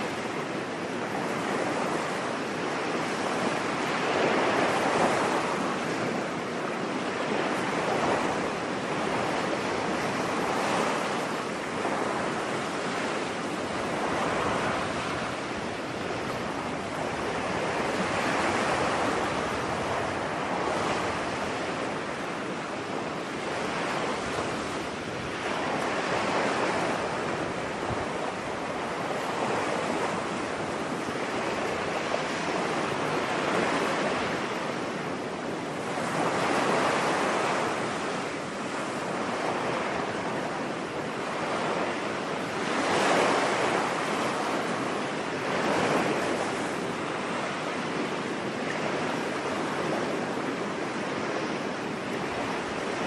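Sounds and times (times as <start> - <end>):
ocean waves breaking on beach: 0.0 - 53.0.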